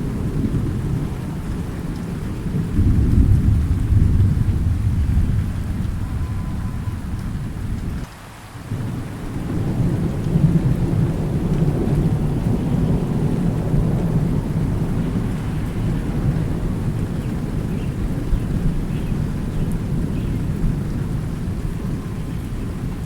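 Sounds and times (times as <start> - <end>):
thunder rumbling: 0.0 - 8.1, 8.7 - 23.0
steady rain: 0.0 - 23.0.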